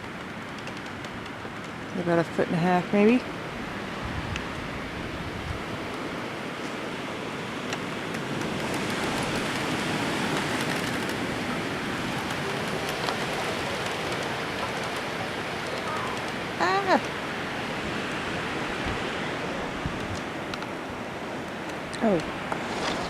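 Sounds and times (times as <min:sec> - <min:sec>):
blizzard wind rushing: 0:03.2 - 0:23.0.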